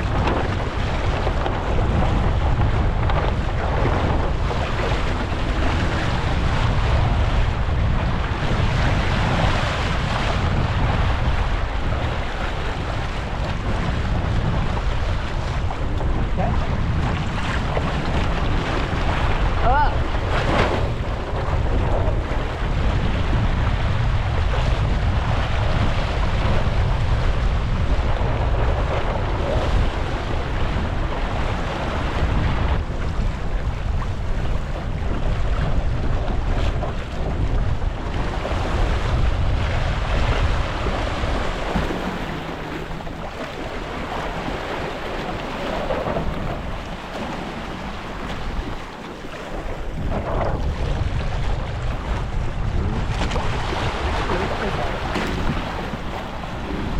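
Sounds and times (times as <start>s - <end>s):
water splashing along hulls: 0.0s - 56.9s
wind buffeting microphone: 0.0s - 56.9s.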